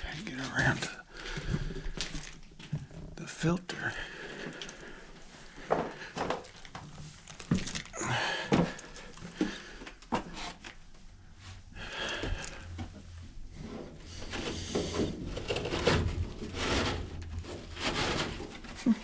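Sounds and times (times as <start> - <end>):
rubbing and rustling of parts: 1.4 - 3.1, 4.4 - 11.2, 12.0 - 19.0.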